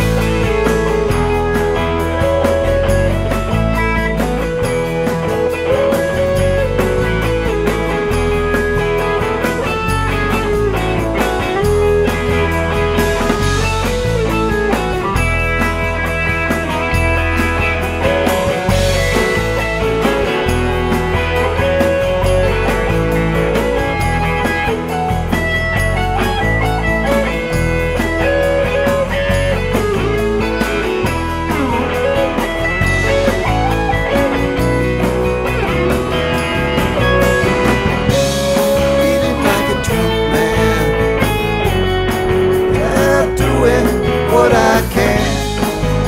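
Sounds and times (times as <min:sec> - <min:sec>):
bass guitar: 0:00.0 - 0:46.0
drums: 0:00.0 - 0:46.0
lead guitar bending notes: 0:00.0 - 0:46.0.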